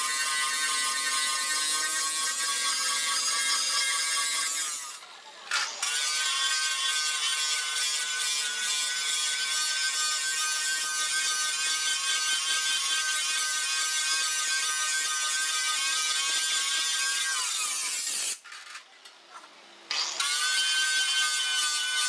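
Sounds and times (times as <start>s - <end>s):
angle grinder whining: 0.0s - 18.8s, 19.9s - 22.0s.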